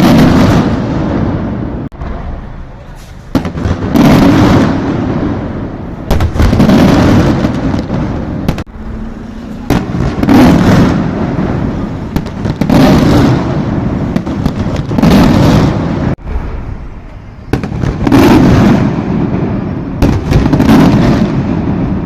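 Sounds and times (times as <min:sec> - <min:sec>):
fireworks exploding: 0:00.0 - 0:22.0.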